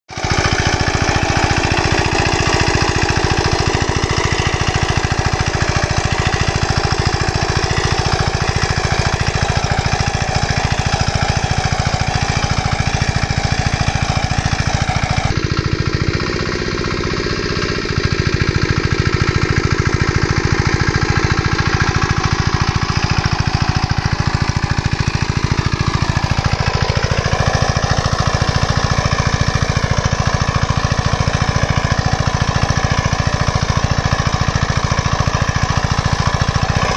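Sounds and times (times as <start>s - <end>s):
small farm machine engine running: 0.1s - 36.9s.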